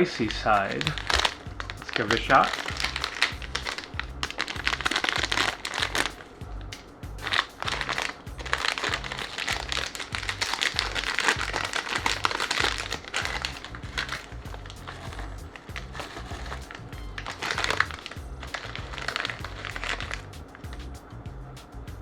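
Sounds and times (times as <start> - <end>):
plastic chip bag crinkling: 0.0 - 20.9
background music with steady beat: 0.0 - 22.0.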